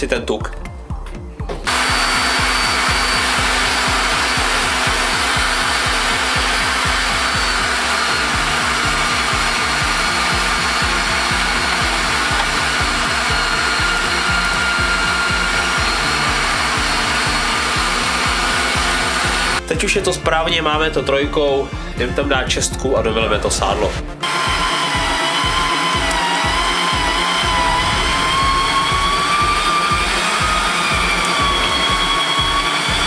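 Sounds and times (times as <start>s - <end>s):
electric meat grinder running: 1.7s - 19.6s, 24.2s - 33.0s.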